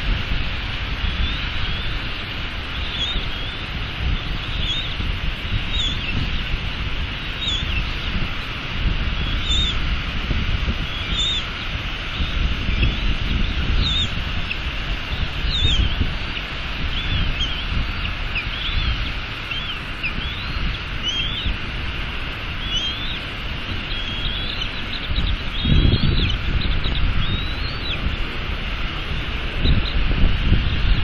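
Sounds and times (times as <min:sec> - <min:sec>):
eaglets peeping: 0:00.0 - 0:31.0
rain hiss: 0:00.0 - 0:31.0
wind rumble on microphone: 0:00.0 - 0:31.0.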